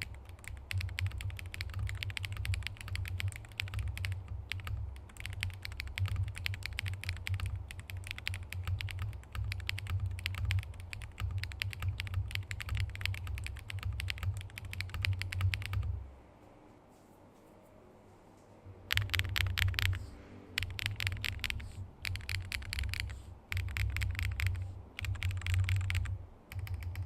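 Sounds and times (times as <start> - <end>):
mechanical keyboard fast typing: 0.0 - 16.0, 18.9 - 20.0, 20.6 - 27.0.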